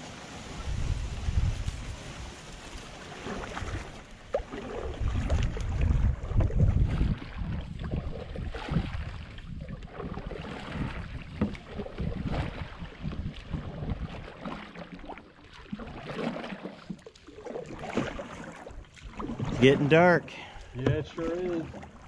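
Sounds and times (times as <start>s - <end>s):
paddle strokes in water: 0.0s - 22.0s
reeds brushing along hull: 0.0s - 22.0s
water splashes: 0.0s - 22.0s.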